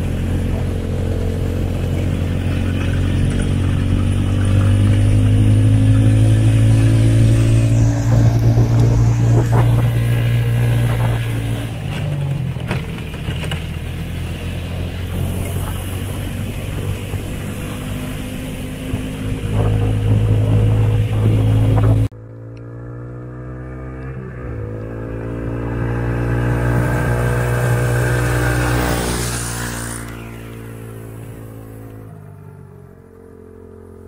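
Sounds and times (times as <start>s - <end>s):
buggy engine driving past: 0.0s - 34.0s
small motorcycle engine running: 0.0s - 34.0s.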